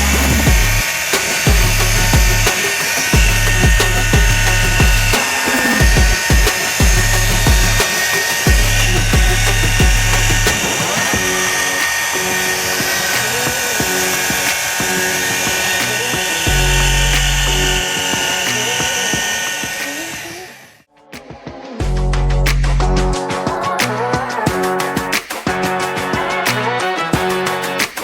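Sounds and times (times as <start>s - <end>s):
background music with deep bass: 0.0s - 19.4s, 21.8s - 28.0s.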